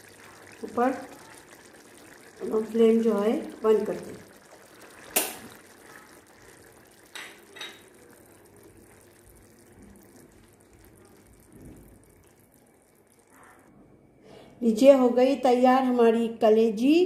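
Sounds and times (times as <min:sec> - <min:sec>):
gravy bubbling in a pot: 0:00.0 - 0:13.8.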